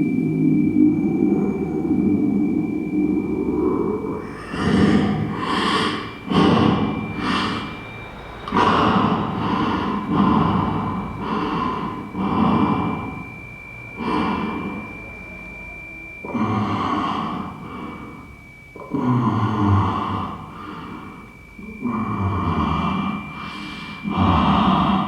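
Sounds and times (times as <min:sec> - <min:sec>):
faint high whine: 0:00.0 - 0:25.0
person breathing heavily: 0:01.1 - 0:15.1, 0:16.2 - 0:25.0.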